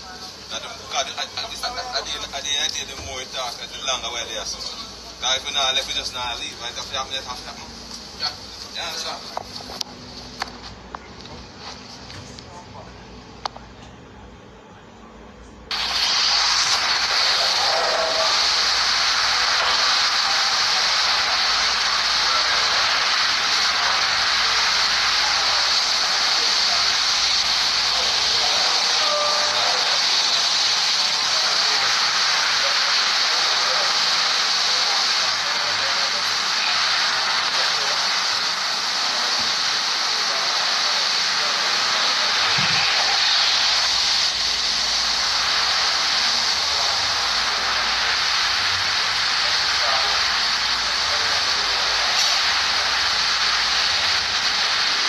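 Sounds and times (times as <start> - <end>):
steady loud hiss: 0.0 - 55.0.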